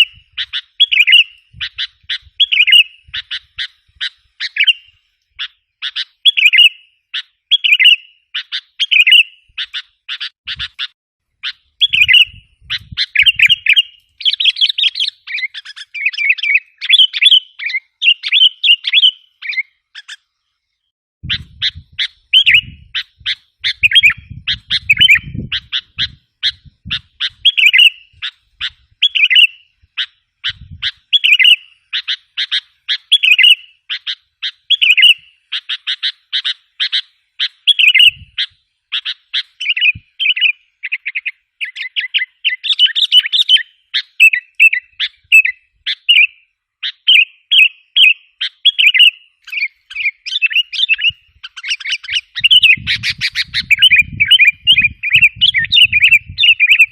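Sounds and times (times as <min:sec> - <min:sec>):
bulbuls chirping: 0:00.0 - 0:56.9.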